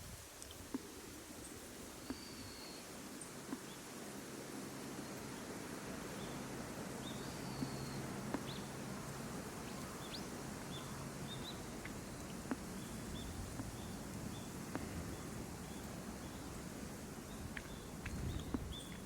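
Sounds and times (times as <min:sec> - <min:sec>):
small birds chirping: 0:00.5 - 0:04.0, 0:05.0 - 0:19.0.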